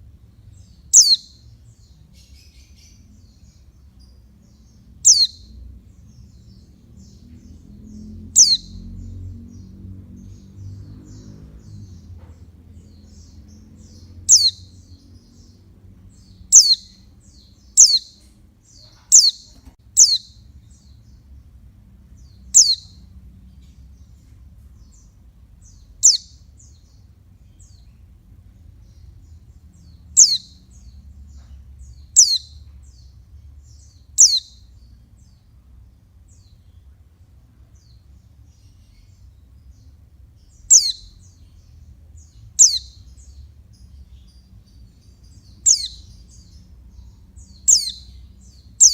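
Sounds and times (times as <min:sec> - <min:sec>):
bird chirping calls: 0:00.0 - 0:48.9.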